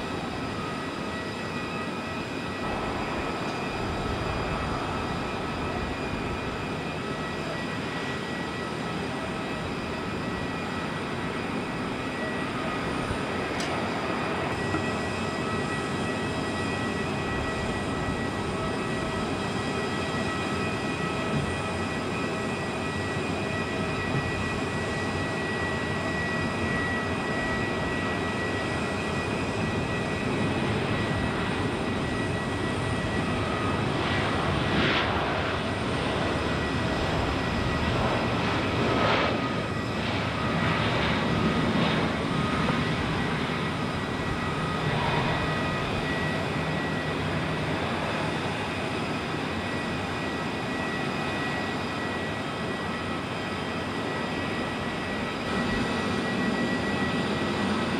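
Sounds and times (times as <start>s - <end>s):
jet engine whine: 0.0s - 57.9s.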